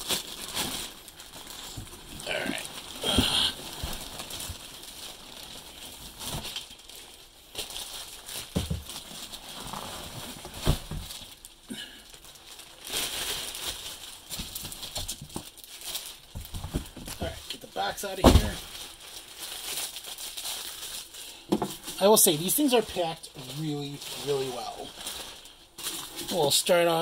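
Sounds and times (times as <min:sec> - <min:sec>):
bubble wrap rustling and crinkling: 0:00.0 - 0:27.0.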